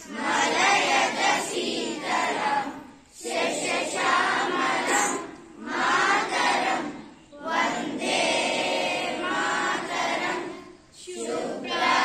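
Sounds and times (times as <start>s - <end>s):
young voices singing in unison: 0.0s - 12.0s.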